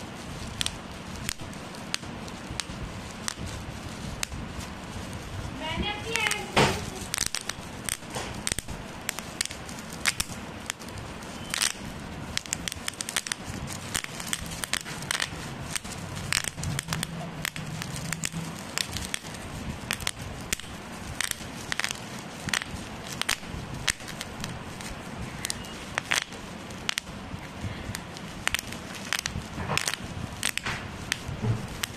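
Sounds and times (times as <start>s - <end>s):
bubble wrap popping: 0.0s - 31.9s
plastic crinkling: 0.0s - 31.9s.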